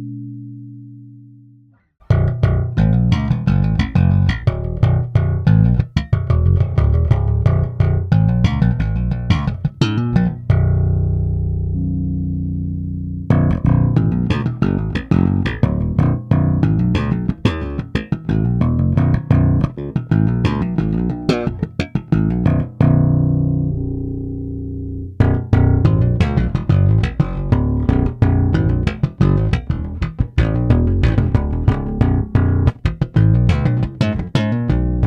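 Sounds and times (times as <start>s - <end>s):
electric bass plucked runs: 0.0s - 35.0s.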